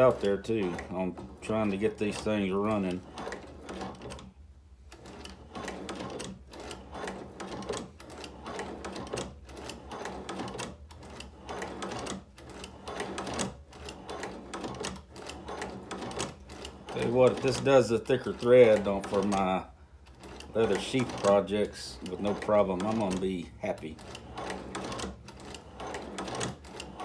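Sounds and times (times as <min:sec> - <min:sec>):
hand-cranked sewing machine clattering: 0:00.0 - 0:27.0.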